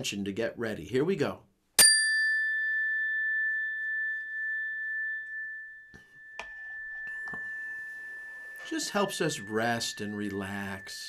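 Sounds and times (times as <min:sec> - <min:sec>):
metal chime bar ringing: 0:01.8 - 0:11.0.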